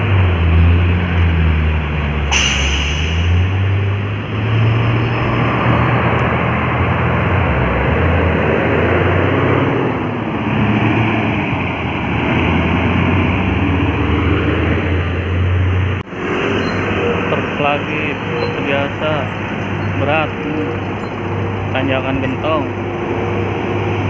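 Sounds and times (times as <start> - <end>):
diesel engine labouring: 0.0 - 24.0
road noise: 0.0 - 24.0.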